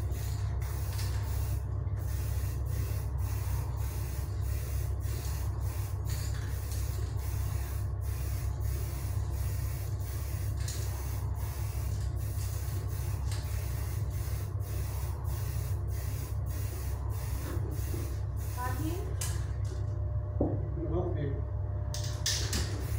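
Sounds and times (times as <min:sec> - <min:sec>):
hiss of paint spray: 0:00.0 - 0:18.9
steady low hum: 0:00.0 - 0:22.9.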